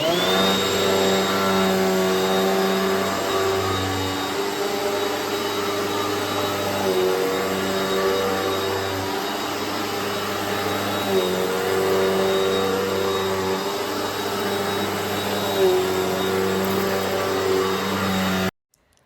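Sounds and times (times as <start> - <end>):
vacuum cleaner running: 0.0 - 18.5.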